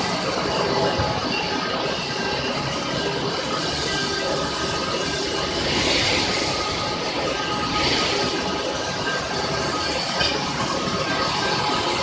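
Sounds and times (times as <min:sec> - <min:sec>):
whining machine tones: 0:00.0 - 0:12.0
wire drawing machine running: 0:00.0 - 0:12.0.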